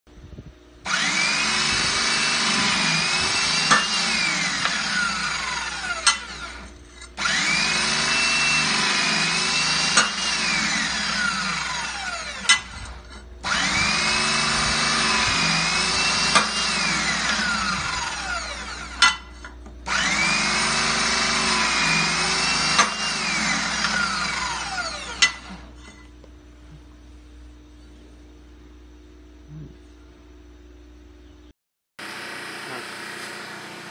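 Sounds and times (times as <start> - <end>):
hydraulic pump motor whine: 0.8 - 26.3, 32.0 - 33.9.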